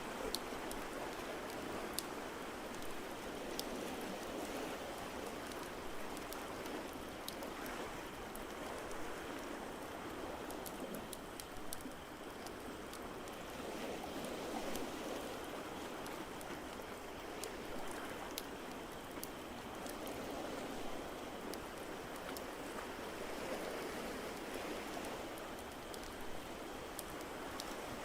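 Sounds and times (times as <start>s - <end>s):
ocean surf washing: 0.0s - 28.0s.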